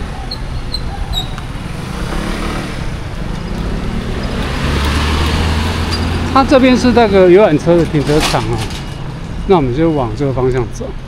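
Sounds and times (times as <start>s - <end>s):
vehicle approaching: 0.0s - 10.8s.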